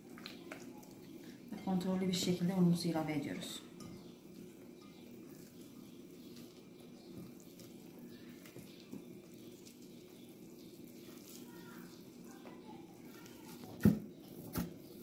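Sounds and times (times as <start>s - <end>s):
hands kneading dough: 0.0s - 15.0s.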